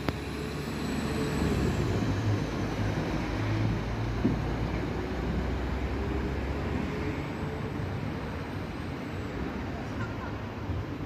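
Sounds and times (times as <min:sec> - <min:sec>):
diesel train engines droning: 0:00.0 - 0:11.0.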